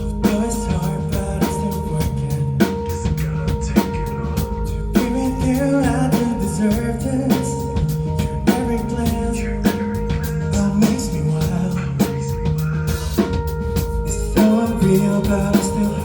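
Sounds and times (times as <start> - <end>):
band playing live: 0.0 - 16.0
bass and electric guitar: 0.0 - 16.0
drum kit beat: 0.0 - 16.0.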